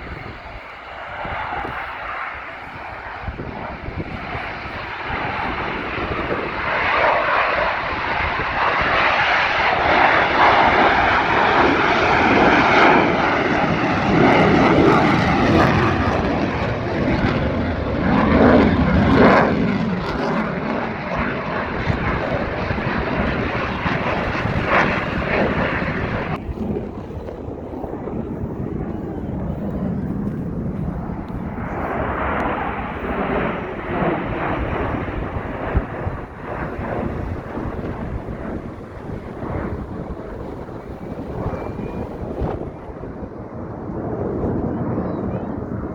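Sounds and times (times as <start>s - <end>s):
airplane flying overhead: 0.0s - 45.9s.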